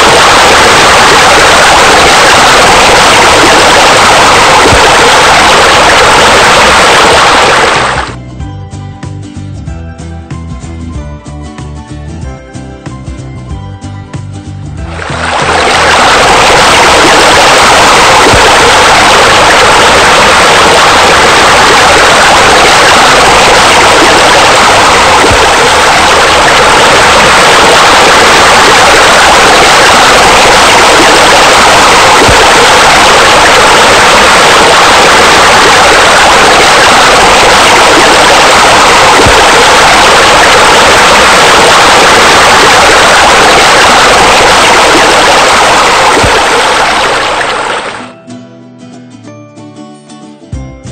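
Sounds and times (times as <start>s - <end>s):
water pouring: 0.0s - 8.2s, 14.8s - 48.1s.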